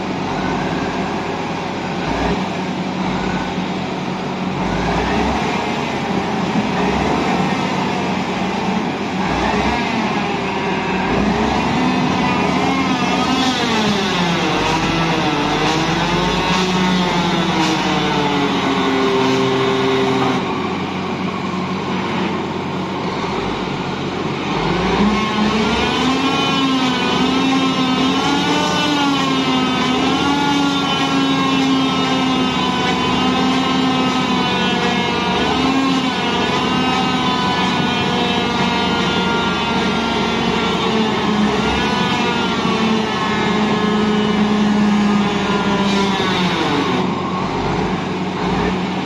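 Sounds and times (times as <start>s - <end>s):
diesel engine revving: 0.0s - 49.0s.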